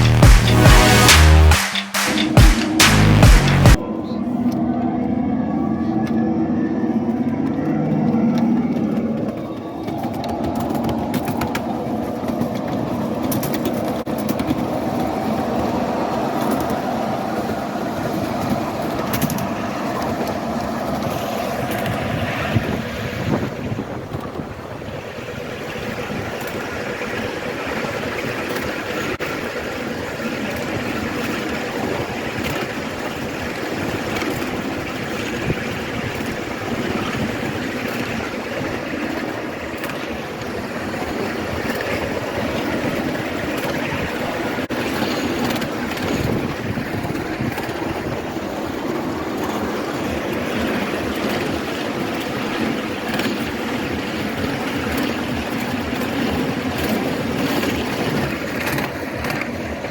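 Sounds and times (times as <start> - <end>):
wheels rumbling on rail: 3.8 - 59.9.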